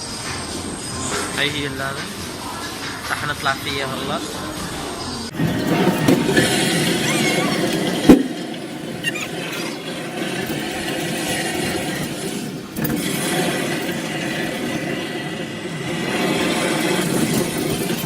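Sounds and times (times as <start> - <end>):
amusement park ride rumbling: 0.0 - 18.0.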